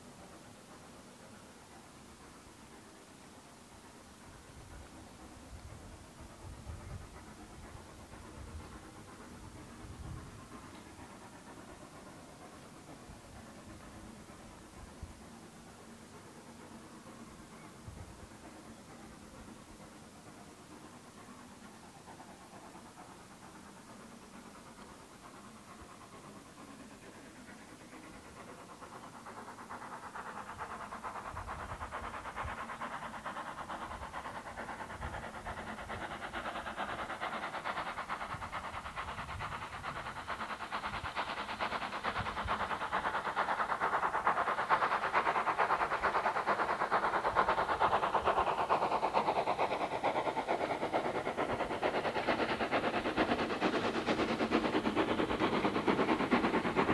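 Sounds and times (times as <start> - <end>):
steam locomotive exhaust beats: 0.0 - 56.9.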